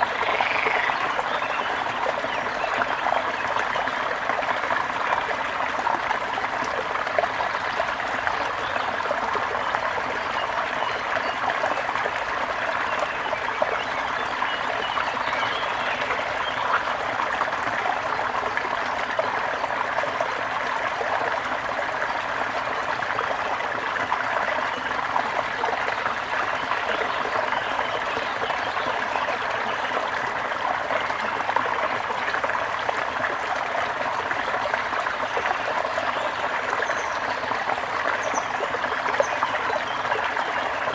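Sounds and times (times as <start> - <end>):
brook babbling: 0.0 - 40.9.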